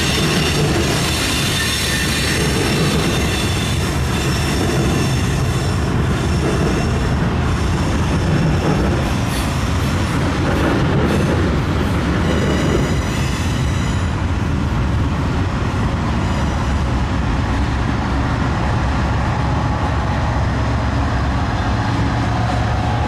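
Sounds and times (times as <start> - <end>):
freight train rumbling over bridge: 0.0 - 23.0.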